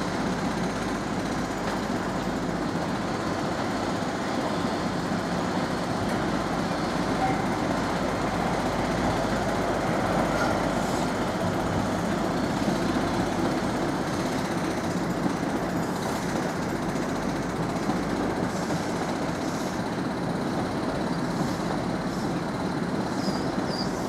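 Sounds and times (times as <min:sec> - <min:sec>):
train mechanical rumble: 0:00.0 - 0:24.0.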